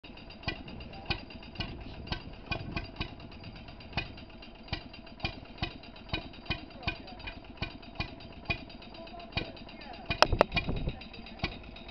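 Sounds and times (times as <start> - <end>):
engine mechanical clatter: 0.0 - 11.9.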